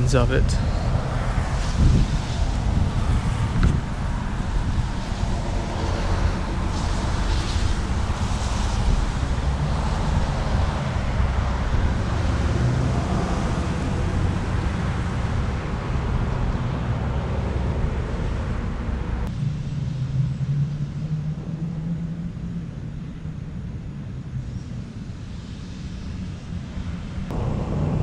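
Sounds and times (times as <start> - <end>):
low traffic hum: 0.0 - 28.0
passing cars rumble and hiss: 0.0 - 28.0.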